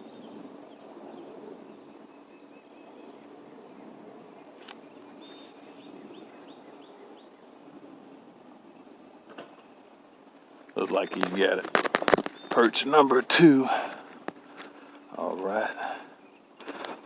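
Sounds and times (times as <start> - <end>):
outdoor background hiss: 0.0 - 17.0
small birds chirping: 0.0 - 17.0.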